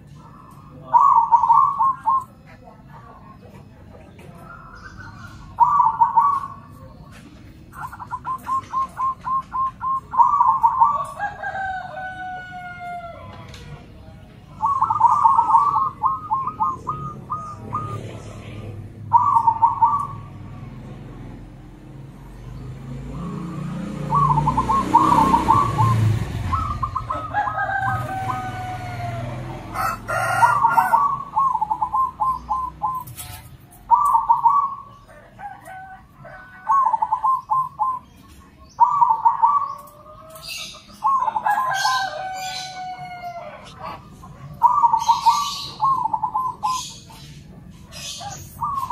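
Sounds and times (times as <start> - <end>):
doves cooing: 0.0 - 48.9.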